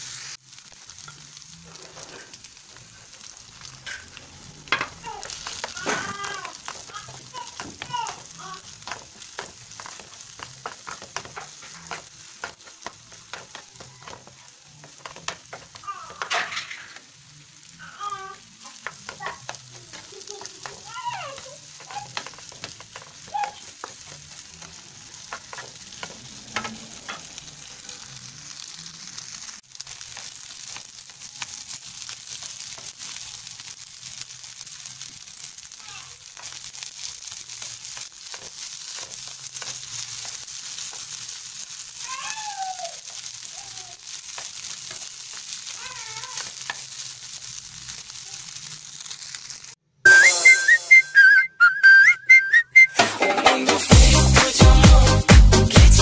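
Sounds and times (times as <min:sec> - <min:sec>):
rice sizzling in a frying pan: 0:00.0 - 0:51.0
spatula scraping a pan: 0:01.0 - 0:17.7, 0:18.4 - 0:35.2, 0:36.3 - 0:42.0, 0:43.0 - 0:49.6.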